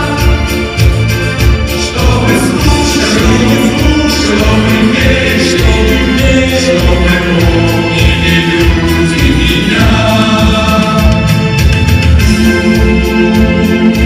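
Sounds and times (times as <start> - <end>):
backing track with steady beat: 0.0 - 14.0
male vocal group singing: 0.0 - 14.0.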